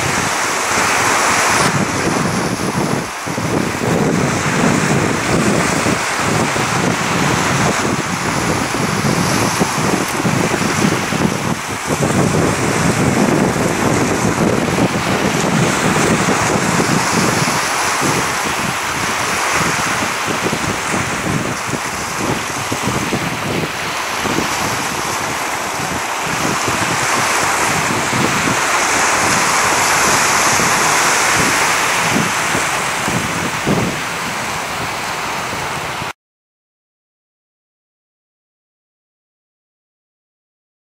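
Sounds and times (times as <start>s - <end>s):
waves washing against rocks: 0.0s - 36.1s
wind buffeting microphone: 0.0s - 36.1s.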